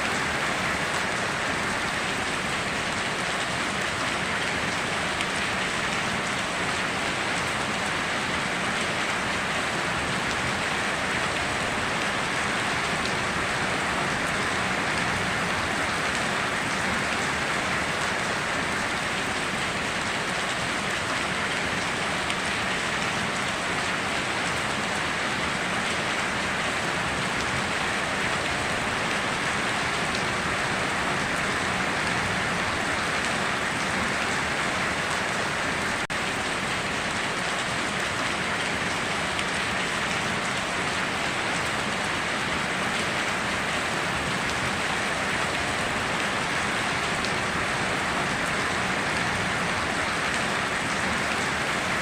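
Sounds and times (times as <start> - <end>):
heavy rain pattering: 0.0 - 52.0.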